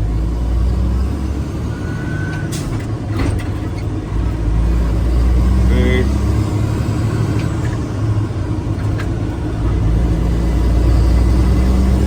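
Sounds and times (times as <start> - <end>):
truck diesel engine shifting gears: 0.0 - 12.0.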